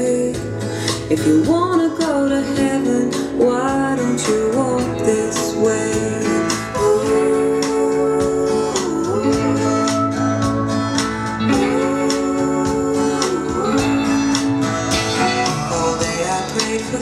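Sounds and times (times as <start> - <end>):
pop-country music with guitars: 0.0 - 17.0.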